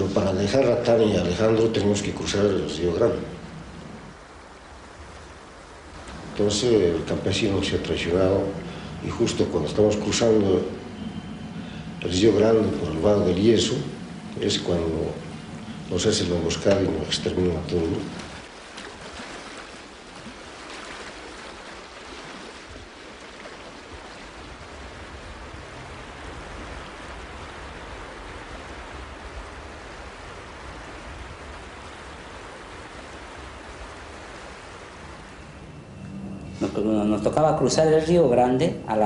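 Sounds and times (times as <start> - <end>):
river water rushing: 0.0 - 38.3.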